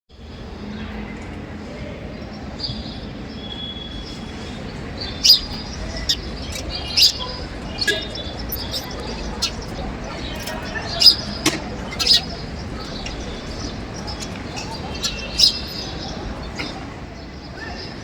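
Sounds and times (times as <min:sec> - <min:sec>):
low background noise: 0:00.1 - 0:18.0
small birds chirping: 0:02.2 - 0:18.0.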